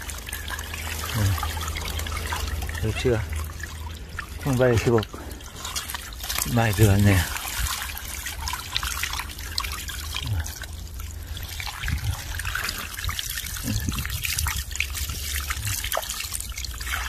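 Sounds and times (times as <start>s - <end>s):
water trickling and dripping: 0.0s - 17.0s
steady low rumble: 0.3s - 15.8s.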